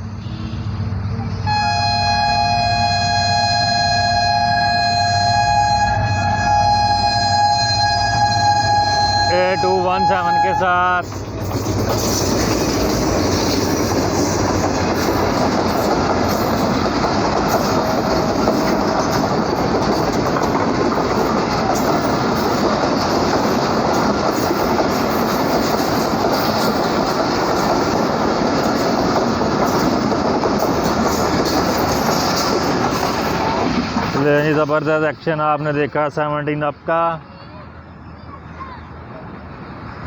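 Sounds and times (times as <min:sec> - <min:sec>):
train wheels rushing on rails: 0:00.0 - 0:36.9.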